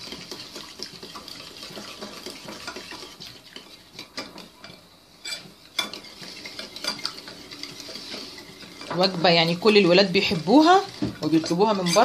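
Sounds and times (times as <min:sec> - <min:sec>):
spoon stirring in china bowl: 0:00.0 - 0:12.0.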